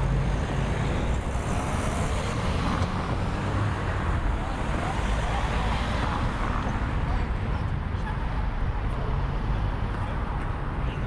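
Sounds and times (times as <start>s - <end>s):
tyres on the road: 0.0s - 11.0s.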